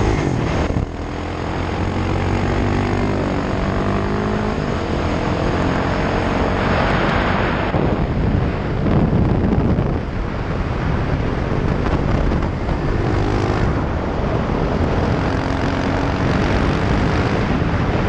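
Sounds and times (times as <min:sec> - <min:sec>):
motorcycle engine accelerating: 0:00.0 - 0:18.0
wind noise: 0:00.0 - 0:18.0.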